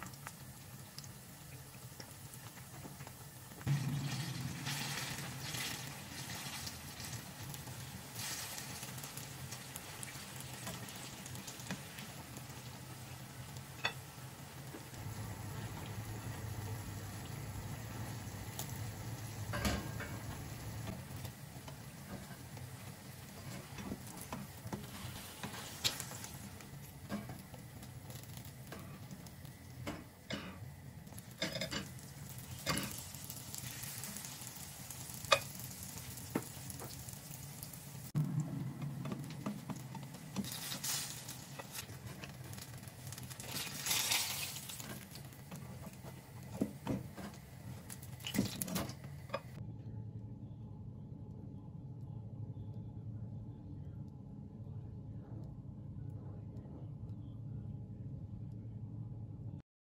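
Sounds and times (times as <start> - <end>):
food sizzling in hot oil: 0.0 - 49.6.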